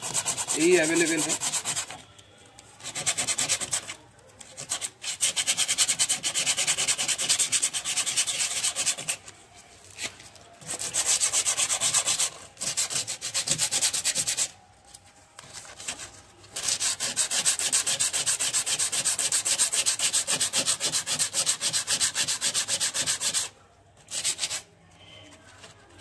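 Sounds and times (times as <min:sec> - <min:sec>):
sandpaper scraping on filler: 0:00.0 - 0:02.1, 0:02.8 - 0:09.2, 0:09.9 - 0:14.6, 0:15.4 - 0:24.7.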